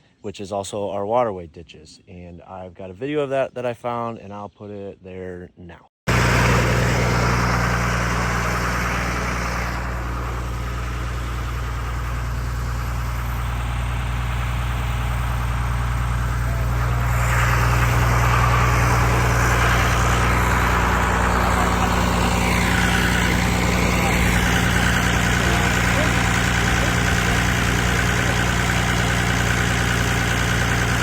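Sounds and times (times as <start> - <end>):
pump motor humming: 6.1 - 31.0.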